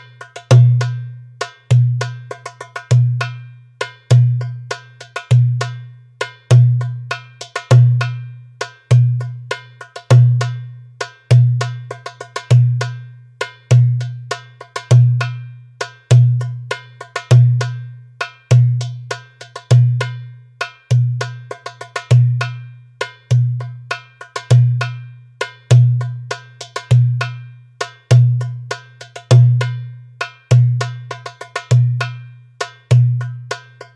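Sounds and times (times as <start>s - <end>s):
goblet drum rhythm: 0.0s - 33.9s.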